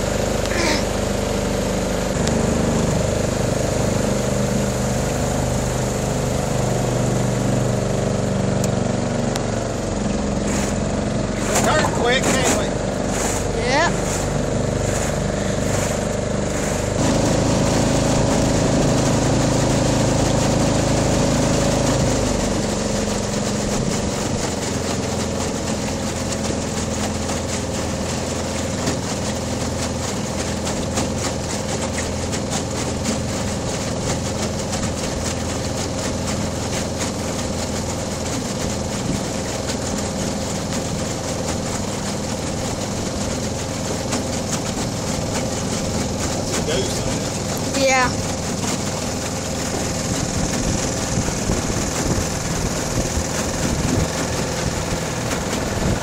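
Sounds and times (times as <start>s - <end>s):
small outboard engine running: 0.0s - 56.0s.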